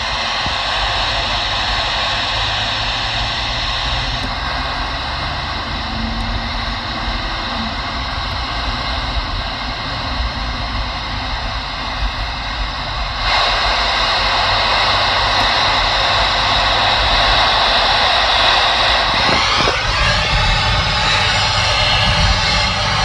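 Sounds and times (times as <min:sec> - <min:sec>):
radio speaker hiss: 0:00.0 - 0:23.0
road and engine rumble: 0:00.0 - 0:23.0.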